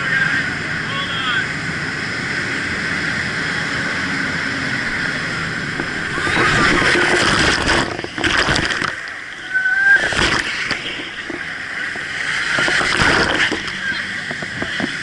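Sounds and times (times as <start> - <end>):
jet boat engine running hard: 0.0 - 15.0
rushing water: 0.0 - 15.0
wind noise: 1.6 - 15.0.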